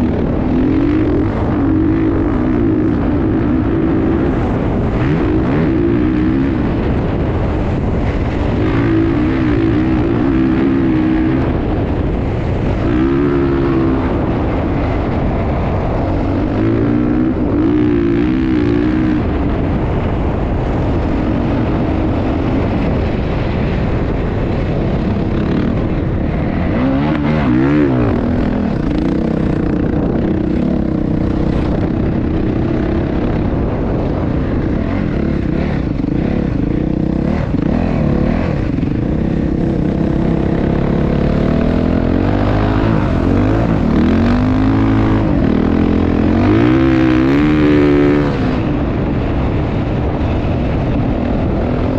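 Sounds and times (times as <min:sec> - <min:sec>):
motorcycle engine revving: 0:00.0 - 0:51.9
rushing noise: 0:00.0 - 0:51.9.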